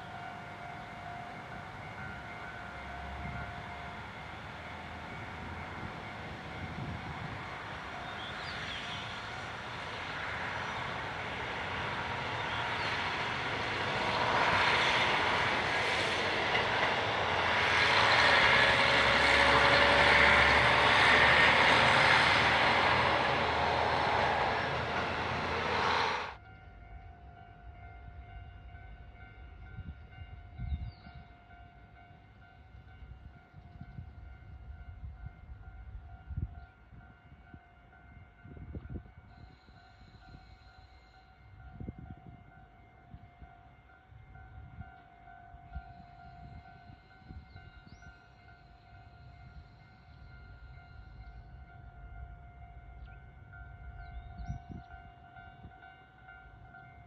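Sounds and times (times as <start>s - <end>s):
diesel railcar passing: 0.0s - 57.0s.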